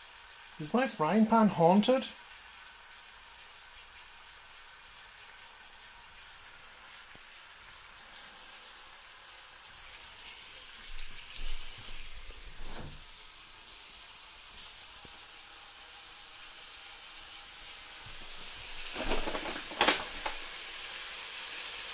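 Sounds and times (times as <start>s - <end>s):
bacon sizzling in a frying pan: 0.0s - 21.9s.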